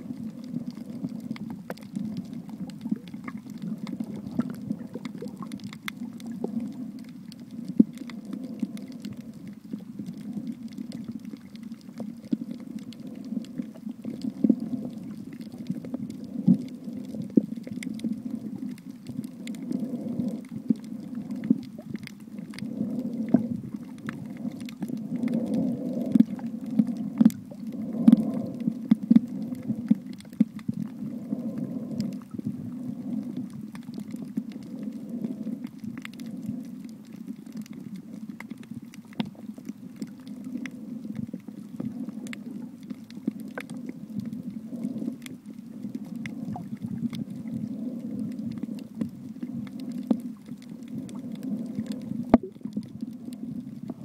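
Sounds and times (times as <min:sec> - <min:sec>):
muffled underwater water rumble: 0:00.0 - 0:54.0
sharp clicks and crackles: 0:00.0 - 0:54.0.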